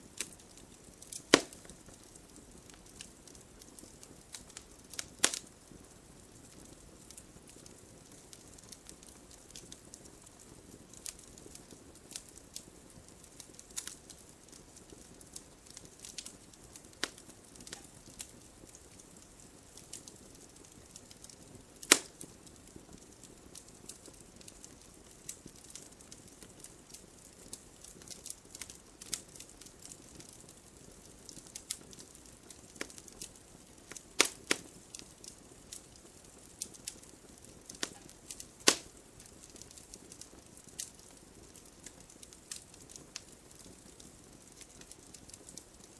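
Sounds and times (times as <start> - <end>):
campfire hissing: 0.0 - 45.9
wood crackling and popping: 0.0 - 45.9.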